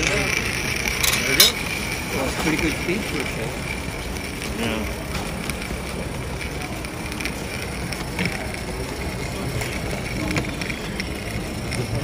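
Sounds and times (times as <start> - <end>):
background chatter: 0.0 - 12.0.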